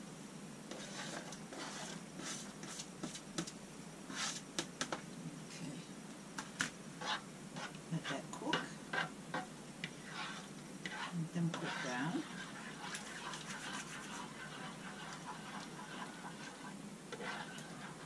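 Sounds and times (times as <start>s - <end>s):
spoon stirring and scraping pan: 0.7s - 5.0s, 6.4s - 18.0s.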